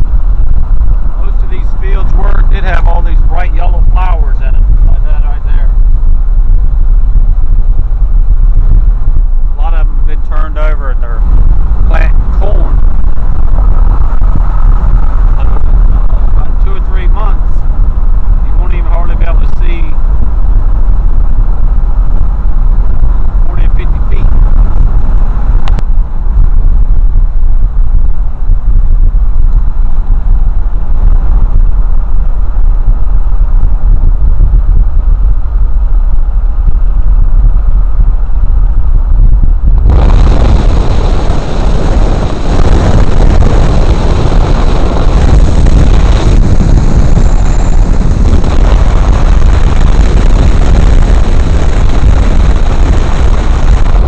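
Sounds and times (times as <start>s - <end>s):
road and engine noise: 0.0s - 54.0s
wind buffeting microphone: 0.0s - 54.0s.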